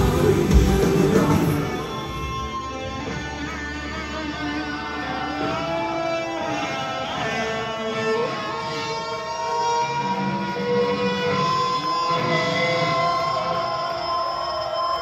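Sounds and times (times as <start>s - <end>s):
electric guitar long notes: 0.0s - 15.0s
keyboards holding long notes: 0.0s - 15.0s.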